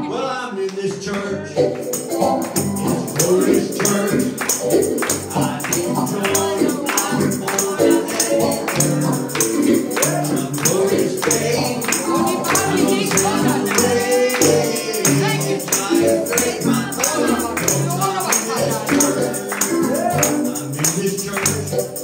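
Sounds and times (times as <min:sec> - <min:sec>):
gospel song sung by congregation: 0:00.0 - 0:22.0
tambourine beat: 0:01.6 - 0:22.0.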